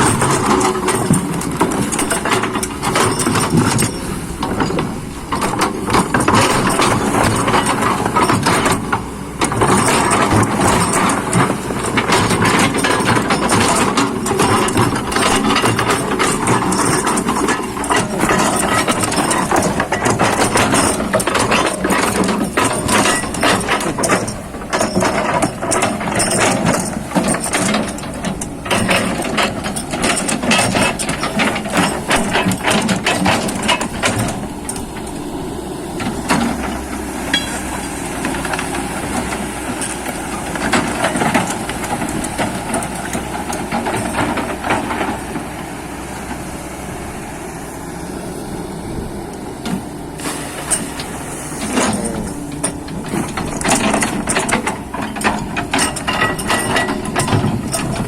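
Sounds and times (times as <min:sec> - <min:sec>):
rapid metallic clicks and knocks: 0:00.0 - 0:35.3, 0:36.0 - 0:45.7, 0:50.5 - 0:58.0
excavator engine running: 0:00.0 - 0:58.0.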